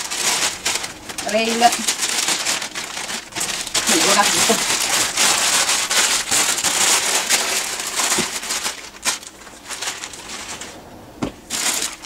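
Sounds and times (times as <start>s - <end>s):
packing paper rustling and crumpling: 0.0s - 12.0s.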